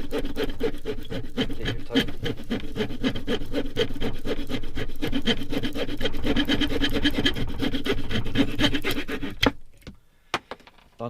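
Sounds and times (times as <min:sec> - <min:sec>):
small saw rasping through wood: 0:00.0 - 0:09.7.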